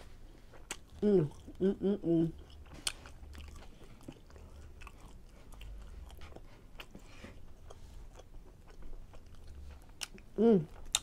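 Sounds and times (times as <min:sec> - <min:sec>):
person chewing food: 0:00.1 - 0:11.0.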